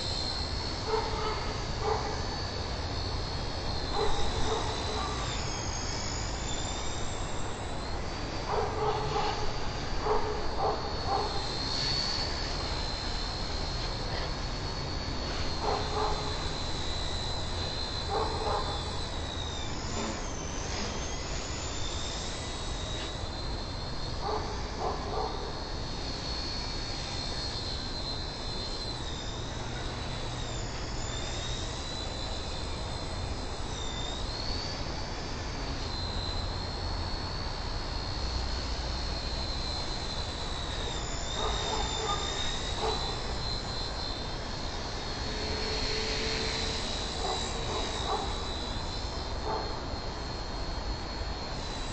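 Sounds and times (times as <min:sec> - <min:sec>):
toy helicopter rotor whine: 0:00.0 - 0:51.9.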